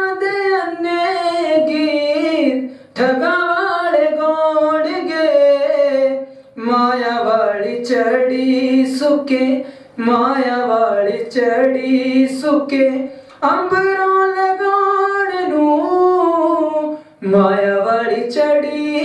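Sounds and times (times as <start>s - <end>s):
person singing: 0.0s - 19.0s.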